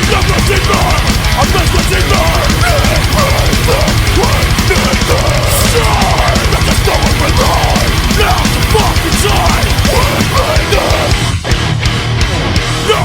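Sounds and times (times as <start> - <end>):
hardcore band playing: 0.0 - 13.0.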